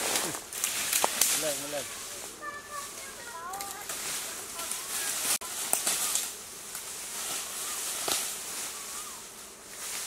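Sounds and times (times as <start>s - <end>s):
high insect hiss: 0.0s - 10.0s
leaves and stems rustling: 0.0s - 10.0s.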